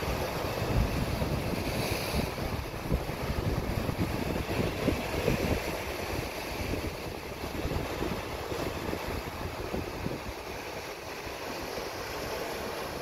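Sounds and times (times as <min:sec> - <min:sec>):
wind buffeting microphone: 0:00.0 - 0:11.3
surf breaking over rocks: 0:00.0 - 0:13.0.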